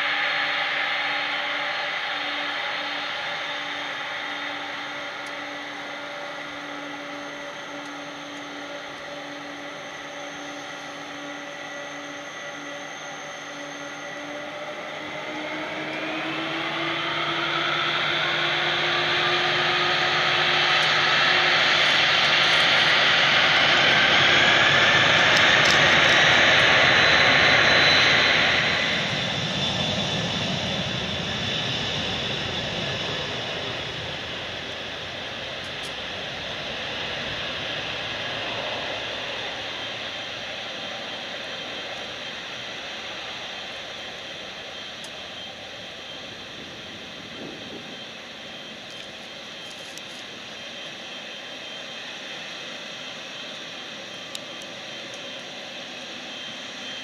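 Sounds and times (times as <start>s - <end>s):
jet engines humming: 0.0s - 57.0s
jet engines whining: 0.0s - 57.0s.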